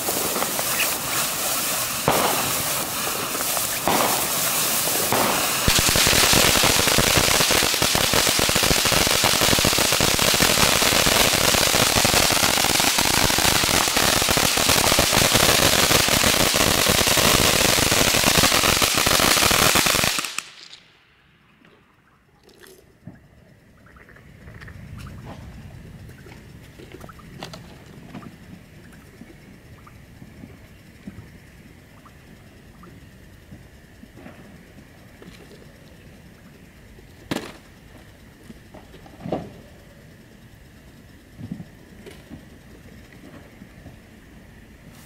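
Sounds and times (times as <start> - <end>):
firework fountain crackling: 0.0 - 21.4, 28.4 - 45.0.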